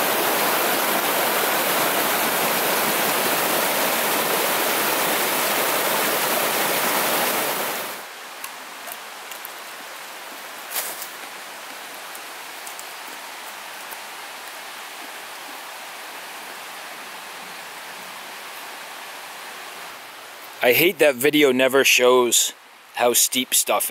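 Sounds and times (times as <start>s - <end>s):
river rushing over rocks: 0.0s - 21.0s
steady hiss: 0.0s - 23.9s.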